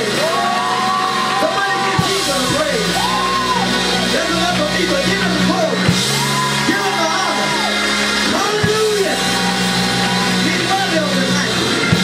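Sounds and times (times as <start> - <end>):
church band playing gospel music: 0.0 - 12.0.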